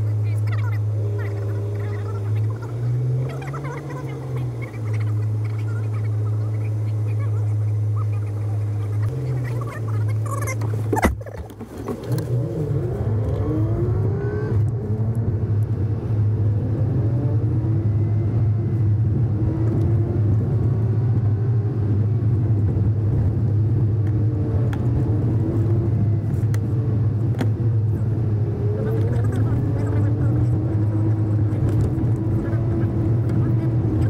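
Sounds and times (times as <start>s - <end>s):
truck engine and tyres from cab: 0.0s - 34.0s.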